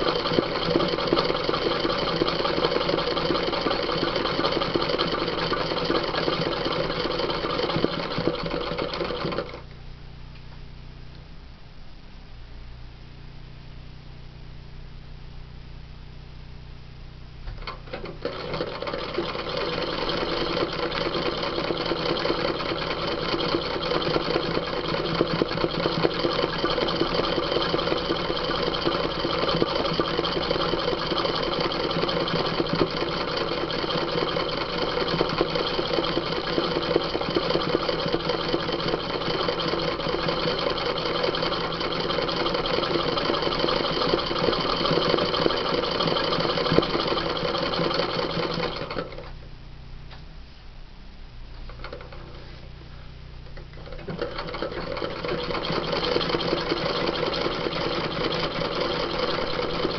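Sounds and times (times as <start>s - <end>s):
sewing machine stitching: 0.0s - 9.6s, 17.6s - 49.3s, 51.7s - 52.4s, 53.5s - 59.9s.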